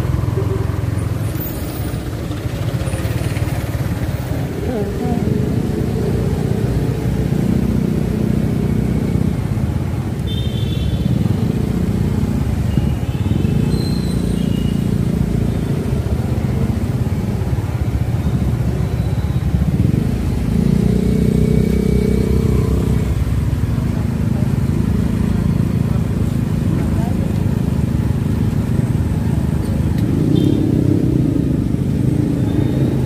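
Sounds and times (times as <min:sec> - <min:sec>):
motorcycle engine running: 0:00.0 - 0:33.0
surrounding traffic noise: 0:00.0 - 0:33.0.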